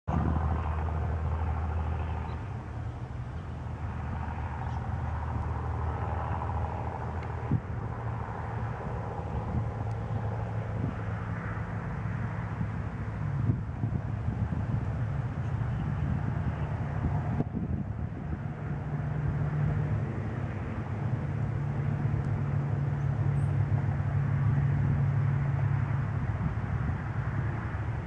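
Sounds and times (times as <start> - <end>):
low rumble of road traffic: 0.0 - 28.0.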